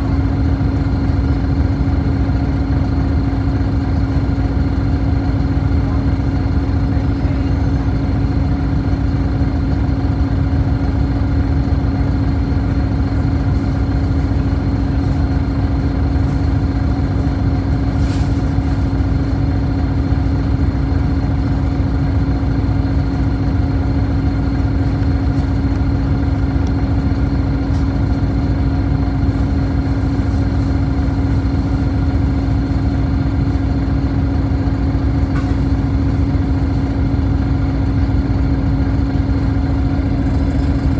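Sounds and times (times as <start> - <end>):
bus engine idling: 0.0 - 40.9.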